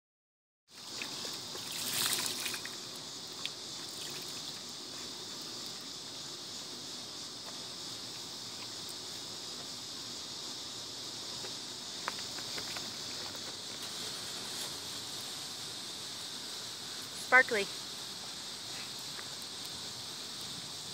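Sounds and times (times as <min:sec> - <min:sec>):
steady high hiss: 0:00.7 - 0:20.9.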